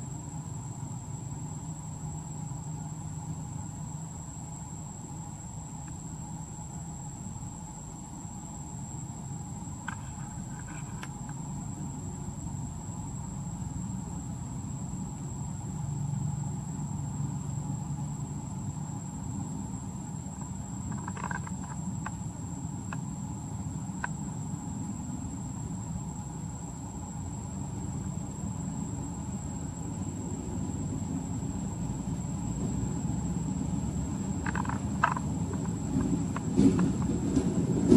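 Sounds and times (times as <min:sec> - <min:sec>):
high insect drone: 0:00.0 - 0:37.9
steady low rumble: 0:04.3 - 0:37.9.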